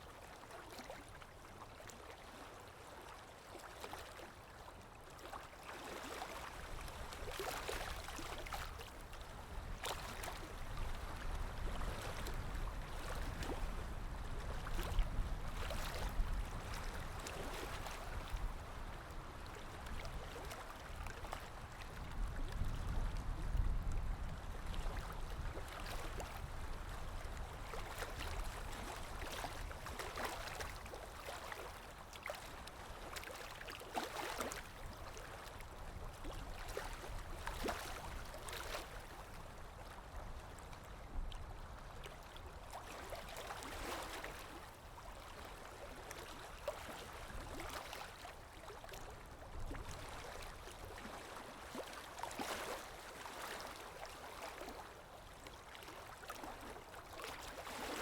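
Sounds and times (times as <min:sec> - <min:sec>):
water lapping: 0:00.1 - 0:58.0.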